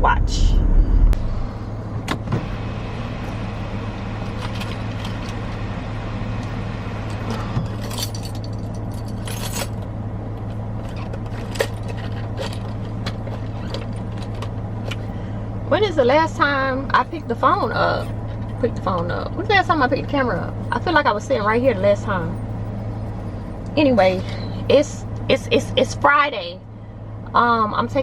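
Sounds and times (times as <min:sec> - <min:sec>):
car cabin hum: 0:00.0 - 0:28.0.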